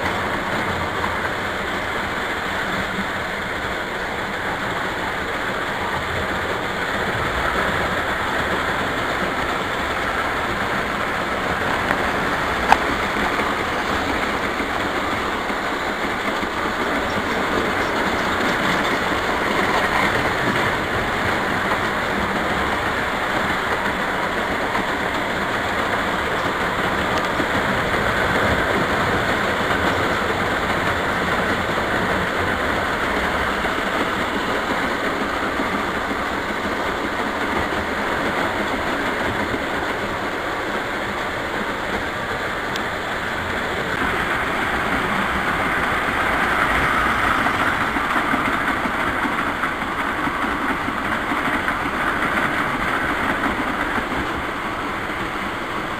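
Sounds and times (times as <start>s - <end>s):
model train whirring on rails: 0.0s - 55.9s.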